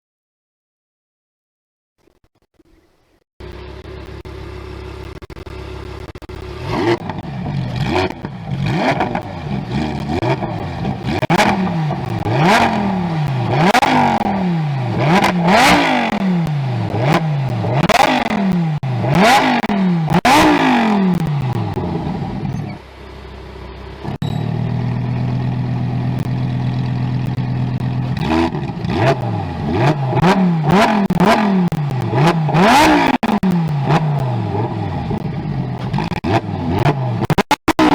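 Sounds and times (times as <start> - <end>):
car engine idling: 3.4 - 37.2
car engine revving in blips: 3.4 - 37.9.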